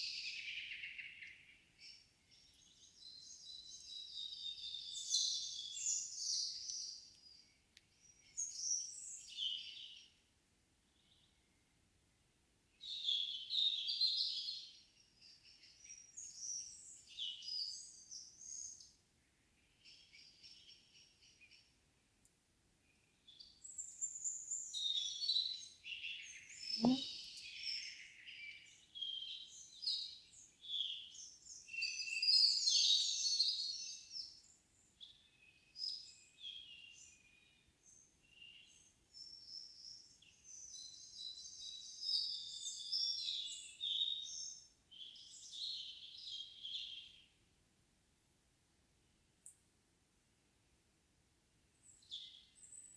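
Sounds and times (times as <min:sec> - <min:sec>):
songbirds singing: 0:00.0 - 0:11.7, 0:12.8 - 0:22.3, 0:22.9 - 0:47.4, 0:51.8 - 0:52.9.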